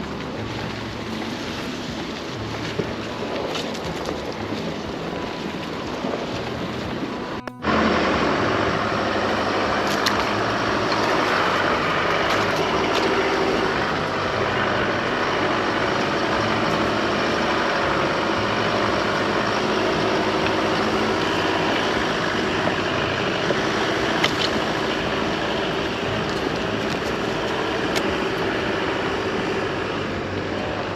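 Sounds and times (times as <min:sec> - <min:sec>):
pickup truck engine: 0:00.0 - 0:30.9.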